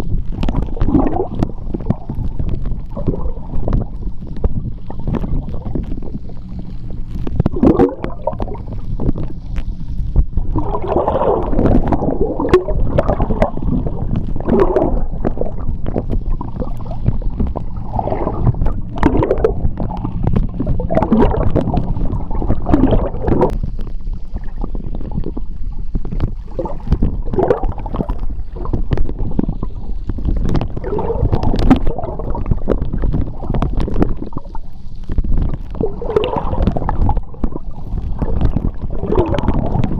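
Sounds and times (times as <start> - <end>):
bubbles gurgling: 0.0 - 39.9
underwater low rumble: 0.0 - 39.9.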